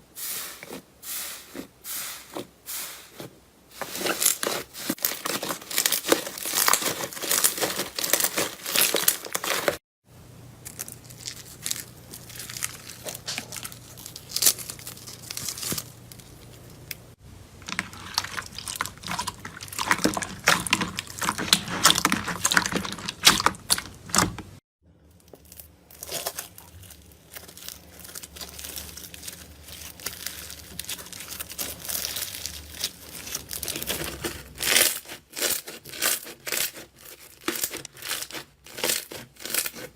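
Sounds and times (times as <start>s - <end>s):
slime crackling and crinkling: 3.1s - 9.8s, 10.6s - 39.9s.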